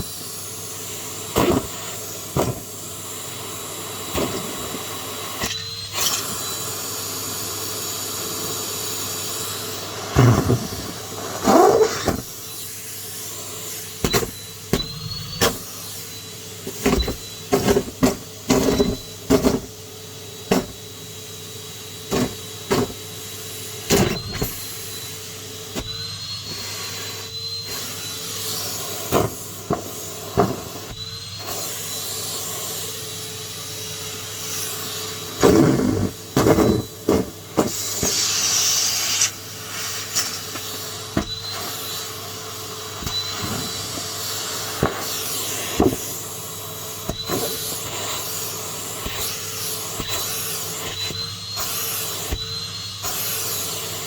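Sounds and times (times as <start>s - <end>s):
vacuum cleaner motor hum: 0.0s - 54.0s.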